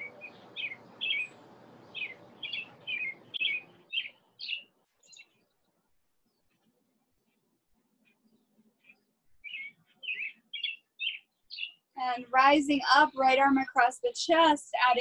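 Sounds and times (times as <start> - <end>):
songbird chirping: 0.0 - 5.6, 8.0 - 15.0.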